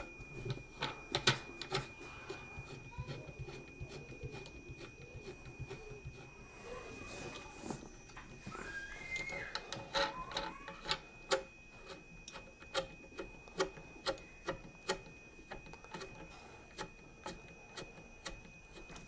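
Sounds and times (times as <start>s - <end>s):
faint high-pitched whine: 0.0s - 19.0s.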